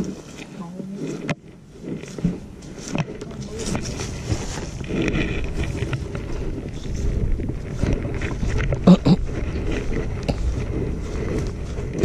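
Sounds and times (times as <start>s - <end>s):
footsteps through dry grass: 0.0s - 12.0s
wind rumbling on microphone: 0.0s - 12.0s.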